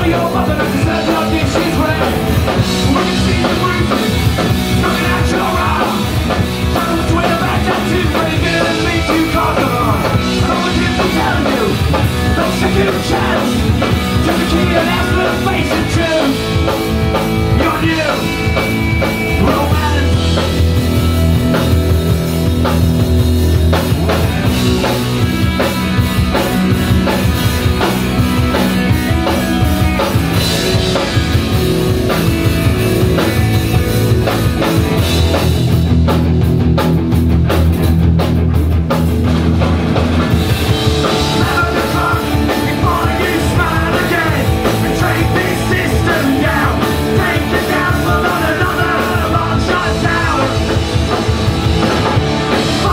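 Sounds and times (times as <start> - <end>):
distorted electric guitars: 0.0 - 52.9
driving drum kit: 0.0 - 52.9.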